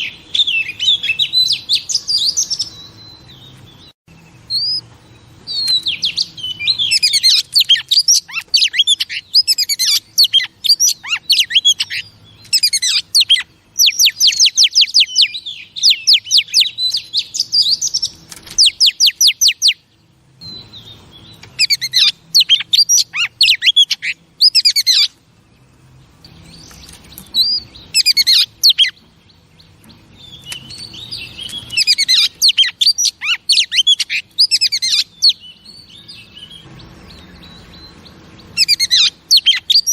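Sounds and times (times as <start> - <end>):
bird singing whistles and trills: 0.0 - 25.1, 26.2 - 39.9.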